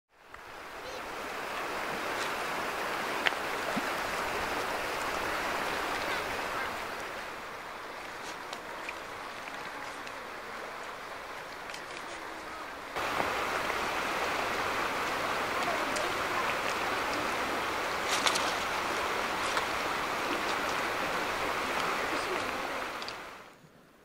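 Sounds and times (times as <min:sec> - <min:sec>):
river rapids rushing: 0:00.2 - 0:23.6.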